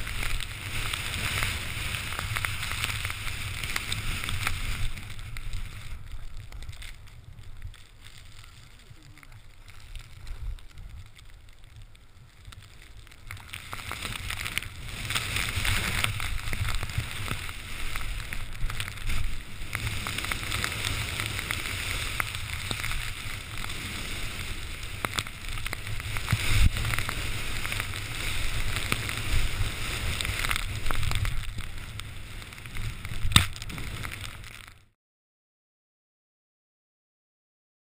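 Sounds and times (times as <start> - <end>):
skis hissing through powder snow: 0.0 - 34.7
wind rumble on microphone: 0.0 - 34.8.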